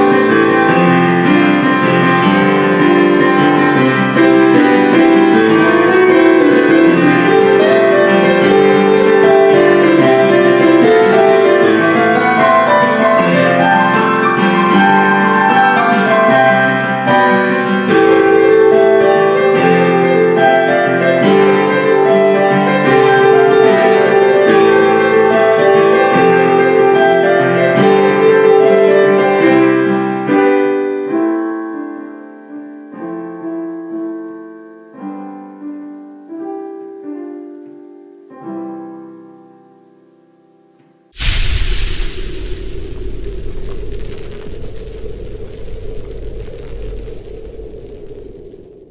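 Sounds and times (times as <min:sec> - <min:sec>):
piano music: 0:00.0 - 0:41.1.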